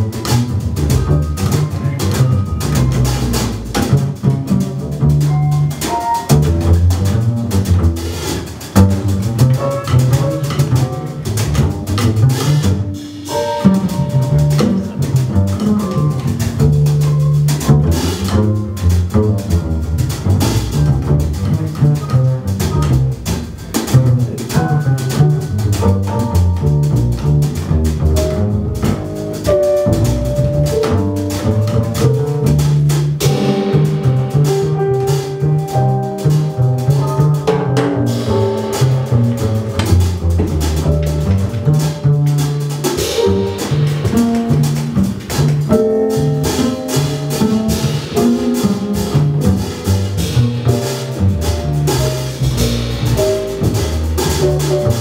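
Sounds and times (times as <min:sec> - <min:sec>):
drum kit: 0:00.0 - 0:55.0
piano: 0:00.0 - 0:55.0
plucked double bass: 0:00.0 - 0:55.0.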